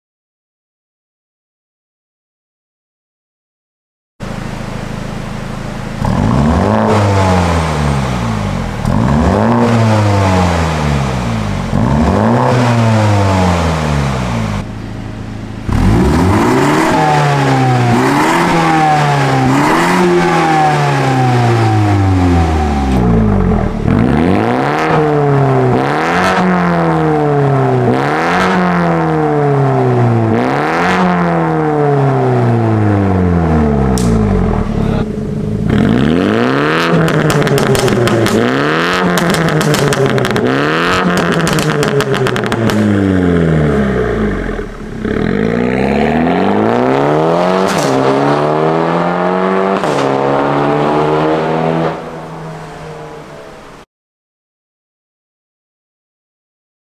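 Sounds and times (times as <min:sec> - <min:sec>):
car engine revving: 0:04.2 - 0:53.8.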